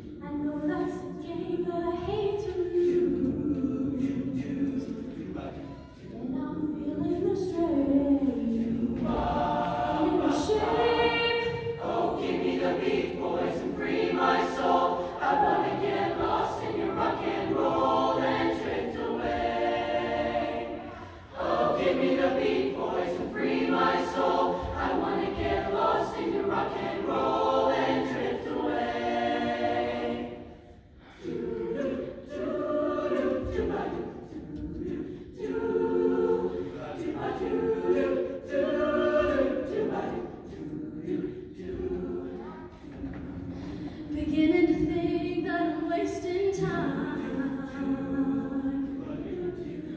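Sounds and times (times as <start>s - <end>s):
choir singing in harmony: 0.0s - 49.9s.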